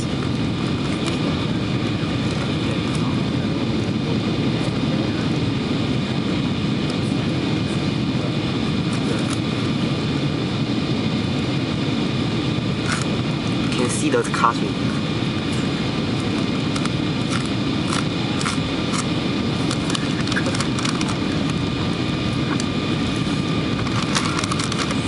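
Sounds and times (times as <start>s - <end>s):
faint steady whine: 0.0s - 25.0s
jet cabin engine roar: 0.0s - 25.0s.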